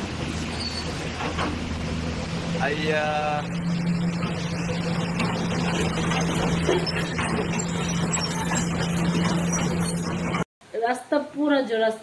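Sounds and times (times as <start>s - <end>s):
excavator diesel engine running: 0.0s - 10.5s.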